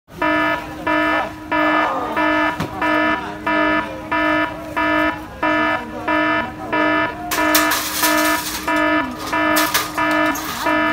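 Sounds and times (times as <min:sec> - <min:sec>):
electronic alarm buzzing beeps: 0:00.2 - 0:10.9.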